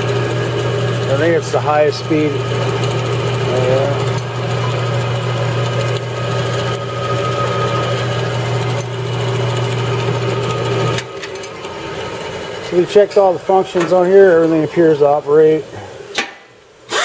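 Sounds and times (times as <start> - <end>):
band saw motor hum: 0.0 - 16.1.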